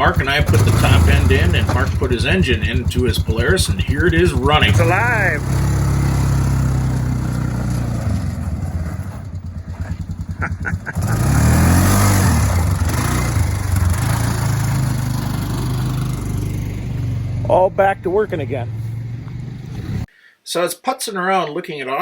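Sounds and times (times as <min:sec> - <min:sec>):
engine idling and revving: 0:00.0 - 0:20.1.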